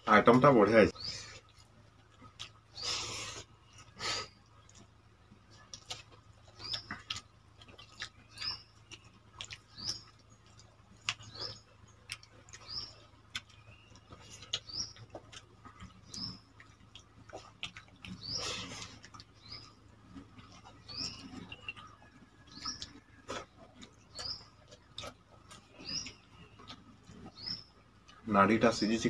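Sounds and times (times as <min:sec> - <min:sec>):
small bird chirping: 0:00.2 - 0:29.0.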